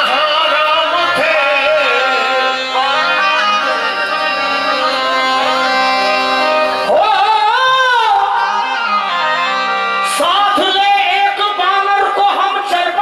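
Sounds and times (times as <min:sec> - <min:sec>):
devotional song instrumental backing: 0:00.0 - 0:13.0
man singing through amplifier: 0:00.0 - 0:13.0.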